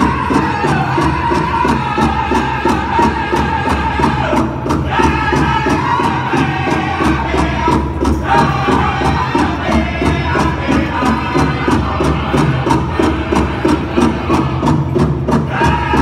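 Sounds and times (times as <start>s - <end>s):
hand drum fast beat: 0.0s - 16.0s
singers' high voices: 0.0s - 16.0s.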